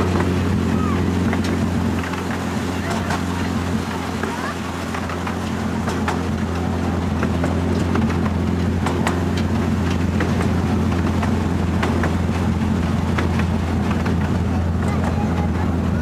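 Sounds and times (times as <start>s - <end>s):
miniature train engine droning: 0.0s - 16.0s
wheels clicking on track: 0.0s - 16.0s.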